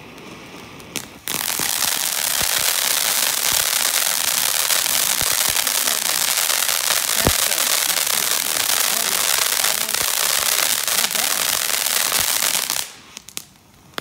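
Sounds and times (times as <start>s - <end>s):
crackling pops: 0.0s - 14.0s
firework fountain hissing: 0.0s - 14.0s.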